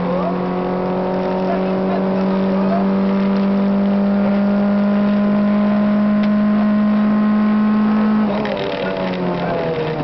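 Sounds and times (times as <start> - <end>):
car engine running hard: 0.0 - 10.0.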